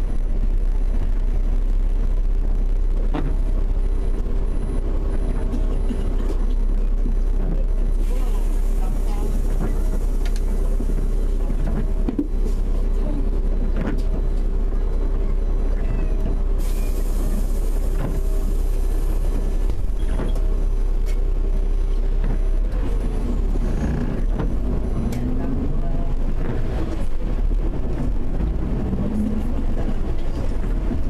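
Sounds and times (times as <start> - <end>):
car engine idling: 0.0 - 31.0
constant hum: 0.0 - 31.0.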